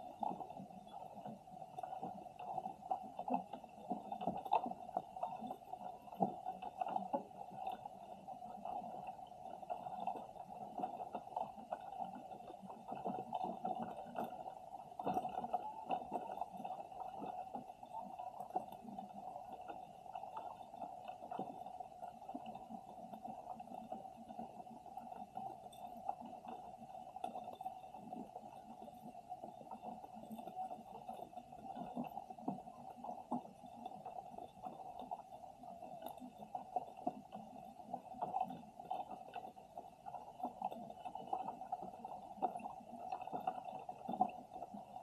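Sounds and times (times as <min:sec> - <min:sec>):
faint irregular clicks: 0:00.0 - 0:45.0
underwater hum: 0:00.0 - 0:45.0.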